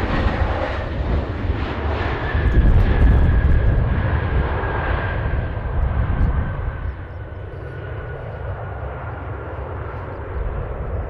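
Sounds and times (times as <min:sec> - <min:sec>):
jet engine whine: 0:00.0 - 0:11.0
jet engines roaring: 0:00.0 - 0:11.0.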